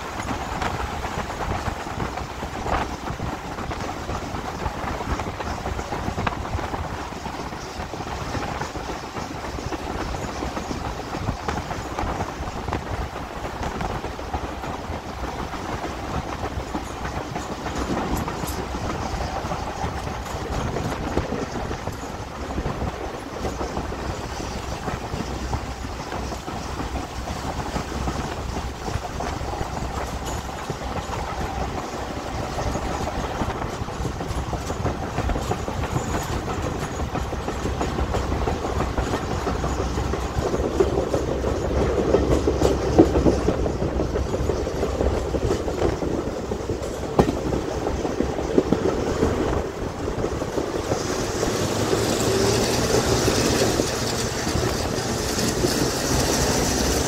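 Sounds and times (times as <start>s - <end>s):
train rumble and wheel noise: 0.0s - 57.0s
wheels clicking on rail: 0.0s - 57.0s.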